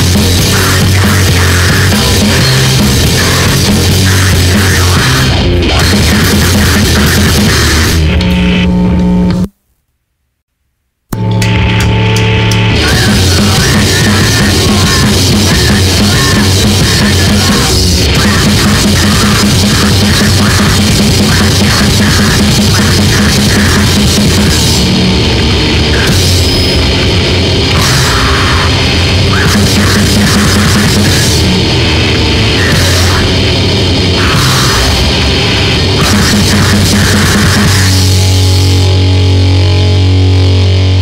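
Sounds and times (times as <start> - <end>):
grindcore band playing: 0.0 - 9.2, 11.2 - 41.0.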